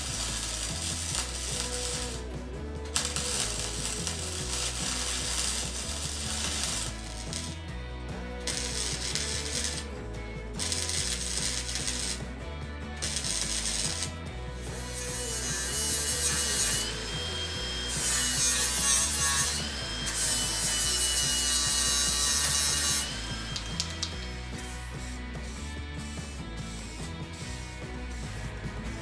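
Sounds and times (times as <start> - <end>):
angle grinder grinding steel: 0.0 - 29.0
arc welding: 0.0 - 29.0.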